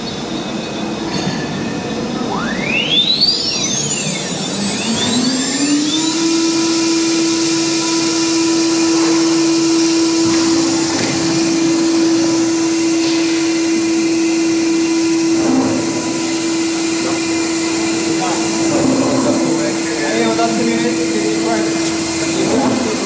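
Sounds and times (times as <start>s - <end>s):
saw spindle whine: 0.0s - 23.0s.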